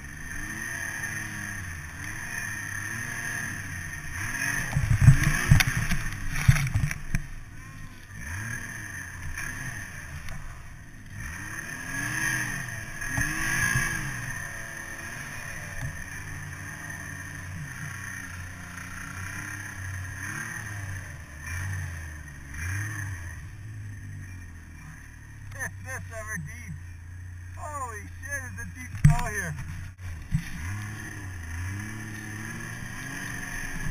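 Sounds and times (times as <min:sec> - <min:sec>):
snowmobile engine revving: 0:00.0 - 0:33.9.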